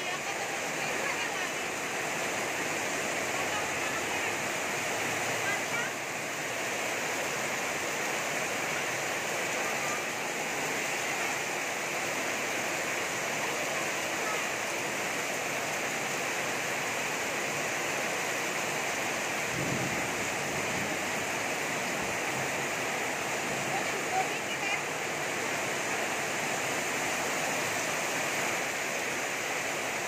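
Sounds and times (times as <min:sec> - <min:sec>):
heavy rain pouring: 0:00.0 - 0:30.0
runoff splashing from eaves: 0:00.0 - 0:30.0.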